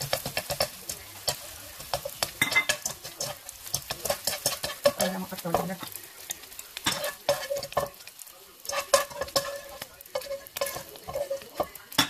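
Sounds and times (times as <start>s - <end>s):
frying sizzle: 0.0s - 12.0s
wire skimmer scraping a wok: 0.0s - 12.0s.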